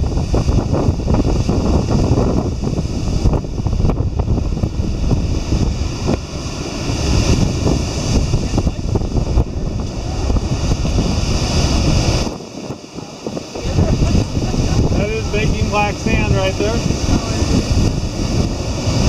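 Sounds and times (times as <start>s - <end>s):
ocean waves and surf: 0.0s - 19.0s
wind buffeting microphone: 0.0s - 19.0s.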